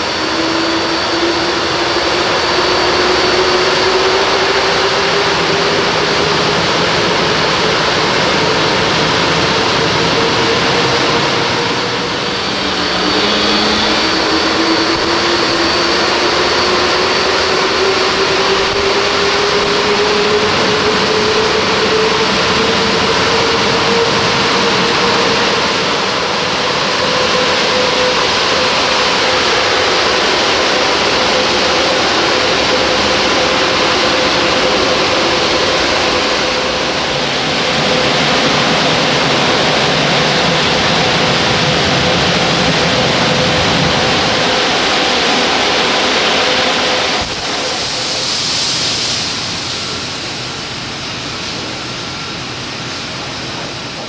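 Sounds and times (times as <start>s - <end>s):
car wash water rushing: 0.0s - 54.0s.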